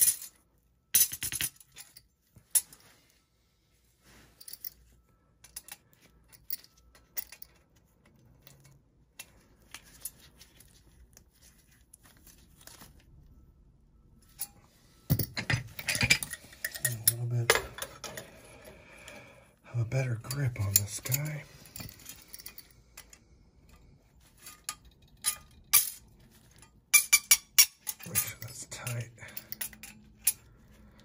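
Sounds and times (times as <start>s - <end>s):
metal tools clinking: 0.0s - 2.9s, 4.3s - 10.9s, 14.2s - 18.8s, 19.8s - 31.0s.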